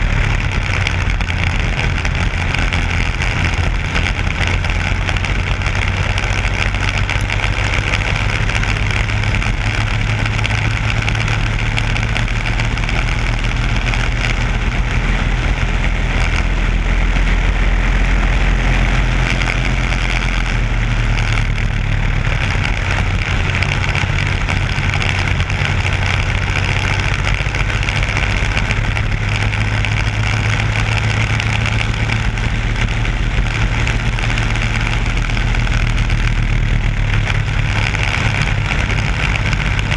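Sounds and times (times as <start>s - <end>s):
kart engine drone: 0.0s - 39.9s.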